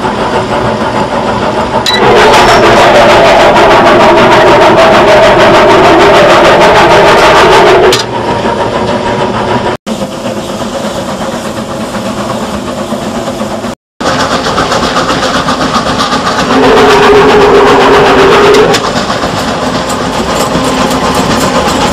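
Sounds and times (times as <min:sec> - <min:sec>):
locomotive running along track: 0:00.0 - 0:21.9
steam locomotive firebox rush: 0:00.0 - 0:21.9.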